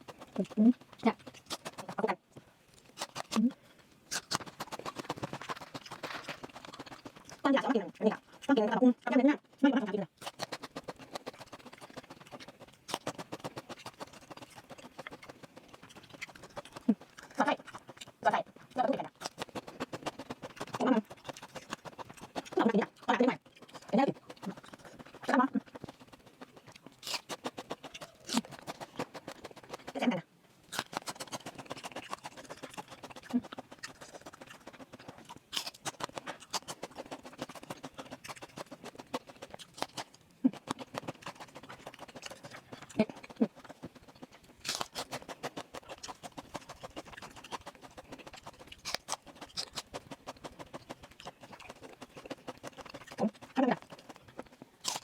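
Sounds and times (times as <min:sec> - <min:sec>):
chewing with wet mouth clicks: 0:00.0 - 0:55.0.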